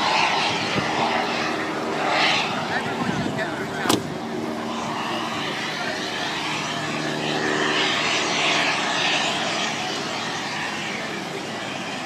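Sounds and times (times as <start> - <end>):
model jet roaring past: 0.0 - 12.0.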